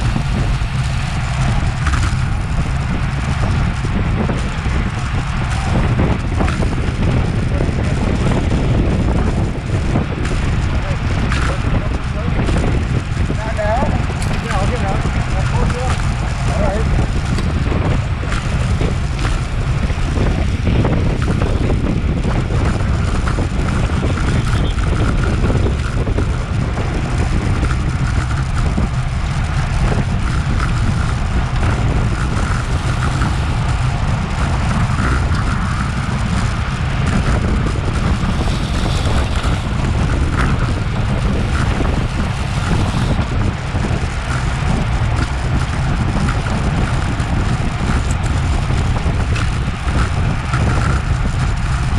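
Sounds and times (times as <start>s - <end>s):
tyres and drivetrain hum: 0.0s - 51.9s
wind buffeting microphone: 0.0s - 51.9s.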